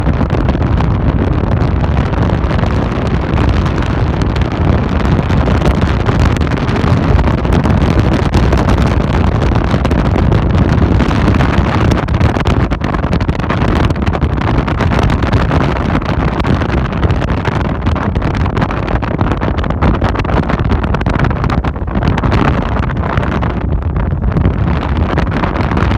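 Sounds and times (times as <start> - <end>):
vehicle rumble on road: 0.0 - 25.9
wind buffeting microphone: 0.0 - 25.9.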